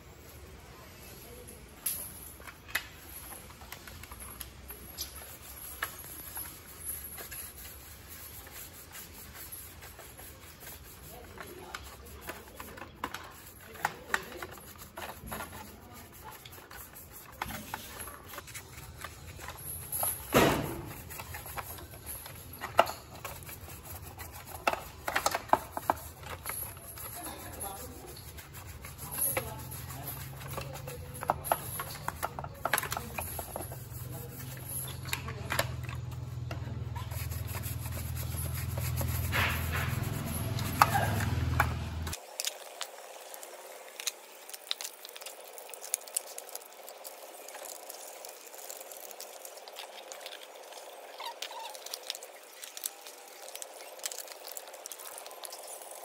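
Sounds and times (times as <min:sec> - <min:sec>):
brush scrubbing plastic: 0:03.0 - 0:56.0.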